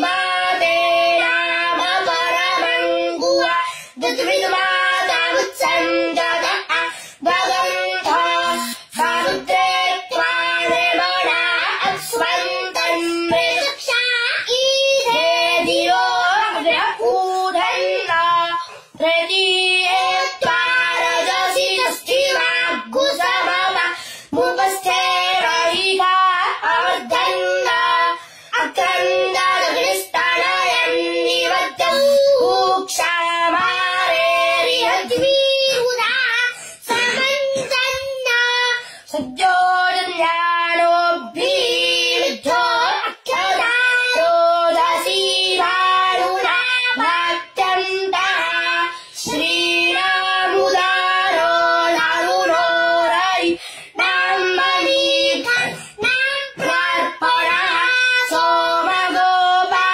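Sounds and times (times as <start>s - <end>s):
boy chanting: 0.0s - 59.9s.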